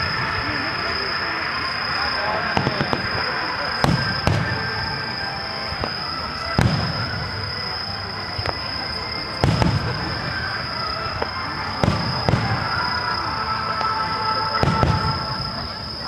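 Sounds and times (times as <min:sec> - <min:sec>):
fireworks booming: 0:00.0 - 0:16.0
small fireworks pops: 0:00.0 - 0:16.0.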